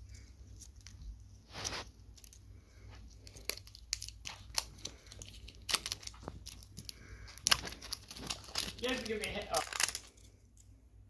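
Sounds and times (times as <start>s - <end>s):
plastic wrap crinkling: 0.0s - 10.7s.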